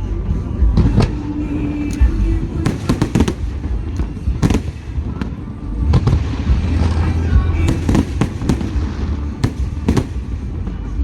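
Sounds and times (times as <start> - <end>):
low rumble: 0.0 - 11.0
fireworks bangs and crackles: 0.6 - 11.0.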